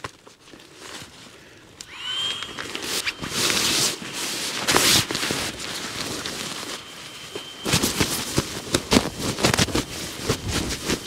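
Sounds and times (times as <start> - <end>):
nylon fabric rustling and crinkling: 0.0 - 1.6, 2.5 - 11.0
faint high whistle: 1.8 - 11.0.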